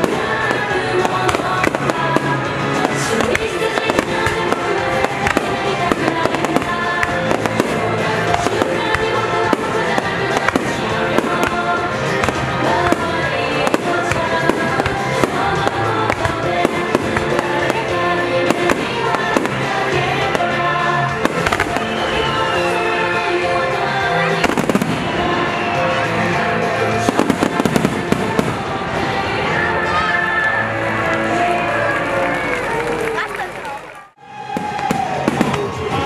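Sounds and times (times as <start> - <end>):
fireworks bangs and crackles: 0.0 - 29.6, 34.4 - 36.0
music: 0.0 - 36.0.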